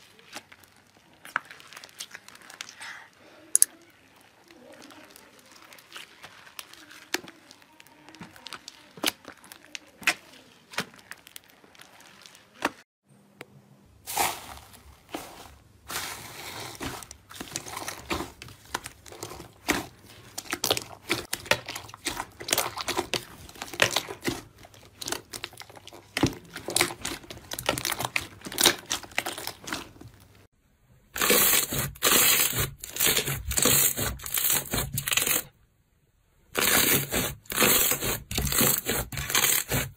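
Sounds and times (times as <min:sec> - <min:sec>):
slime crackling and popping: 0:00.0 - 0:12.8, 0:16.8 - 0:30.5, 0:31.1 - 0:35.5, 0:36.5 - 0:39.9.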